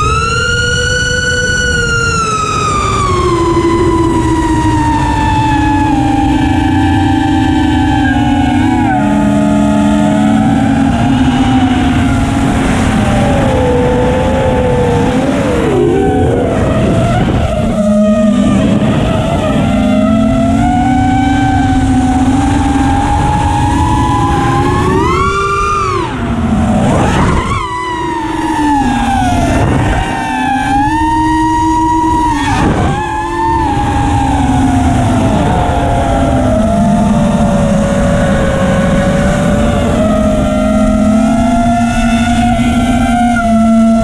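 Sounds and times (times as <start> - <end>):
quadcopter motors whining: 0.0 - 44.0.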